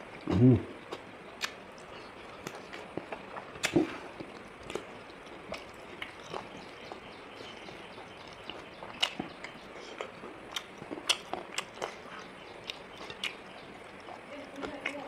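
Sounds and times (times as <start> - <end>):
chewing and biting food: 0.2 - 15.0.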